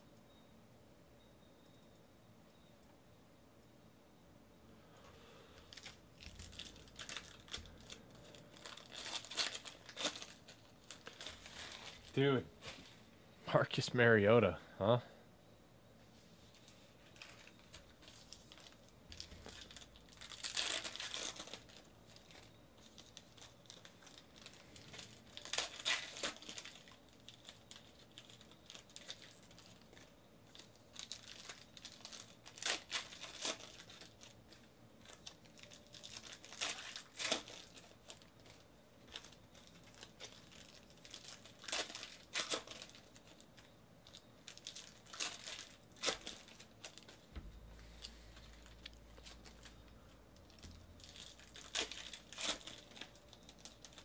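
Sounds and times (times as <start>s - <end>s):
foil wrappers crinkling and tearing: 5.6s - 12.9s, 17.0s - 54.0s.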